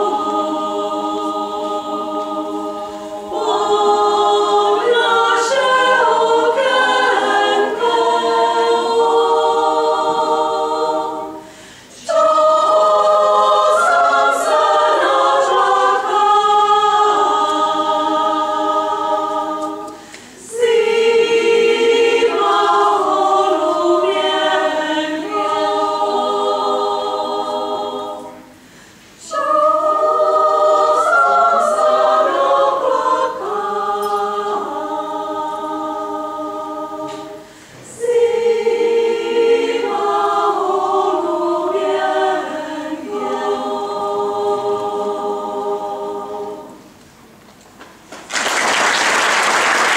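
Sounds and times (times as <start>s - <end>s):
choir singing a cappella: 0.0s - 47.4s.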